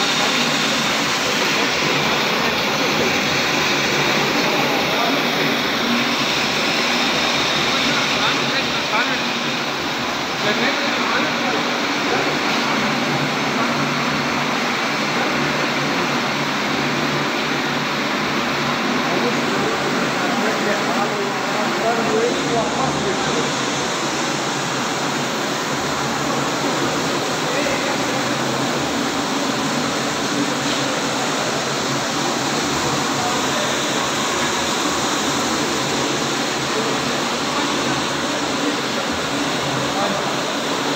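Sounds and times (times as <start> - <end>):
turbine machine and water noise: 0.0 - 40.9.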